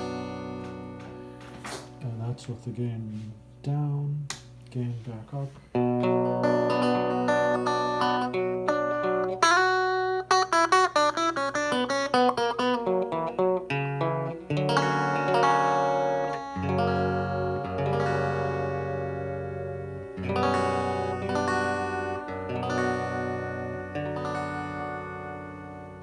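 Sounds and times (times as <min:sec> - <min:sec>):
electric guitar through amplifier: 0:00.0 - 0:04.9, 0:05.5 - 0:26.0.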